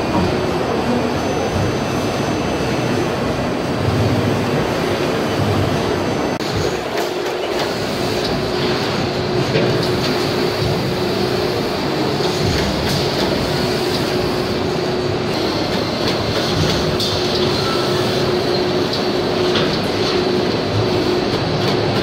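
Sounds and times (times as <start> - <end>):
injection moulding machines running: 0.0 - 22.0.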